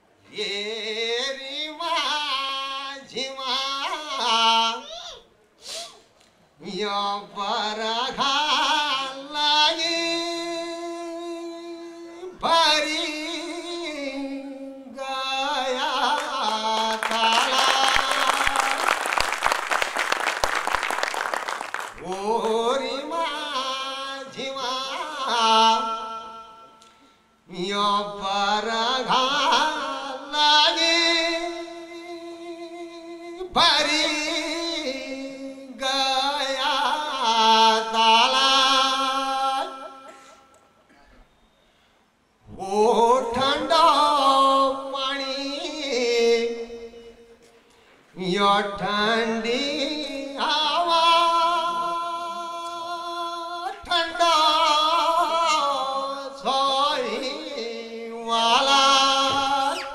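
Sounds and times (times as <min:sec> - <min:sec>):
man singing into a microphone: 0:00.2 - 0:05.0, 0:06.6 - 0:18.9, 0:22.0 - 0:40.4, 0:42.4 - 0:59.9.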